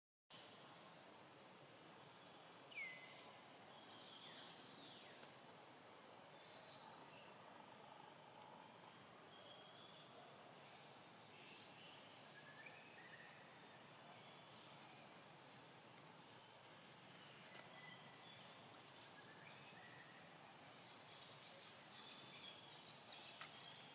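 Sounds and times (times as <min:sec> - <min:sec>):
high insect hiss: 0:00.3 - 0:23.9.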